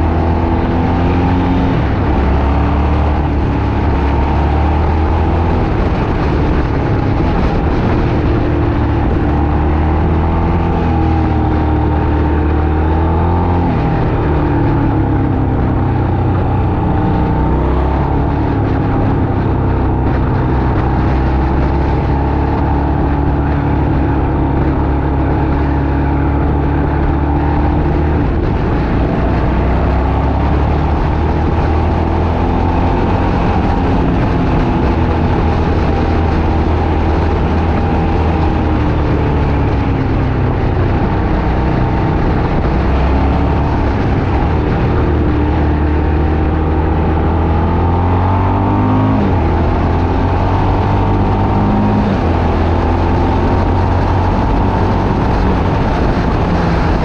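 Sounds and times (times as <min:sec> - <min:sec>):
road and wind noise: 0:00.0 - 0:57.0
vehicle engine running: 0:00.0 - 0:57.0.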